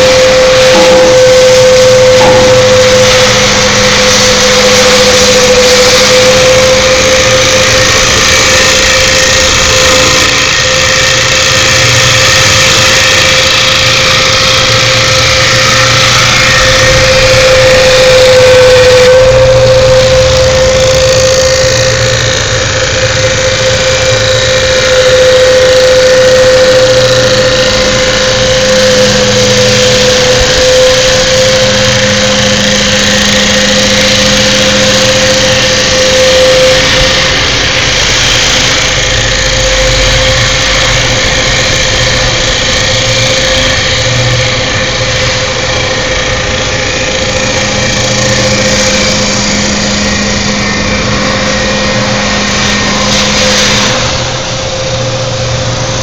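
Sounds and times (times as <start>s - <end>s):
lathe cutting wood: 0.0s - 56.0s
lathe motor whine: 0.0s - 56.0s.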